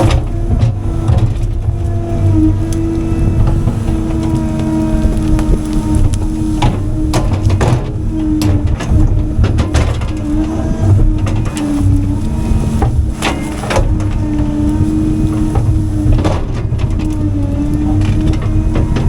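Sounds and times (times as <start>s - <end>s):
excavator engine and hydraulics: 0.0s - 19.0s
wood cracking and snapping: 0.0s - 19.0s.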